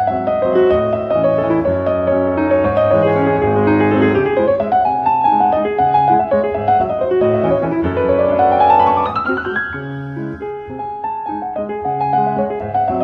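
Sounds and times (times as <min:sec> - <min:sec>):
background piano music: 0:00.0 - 0:13.0.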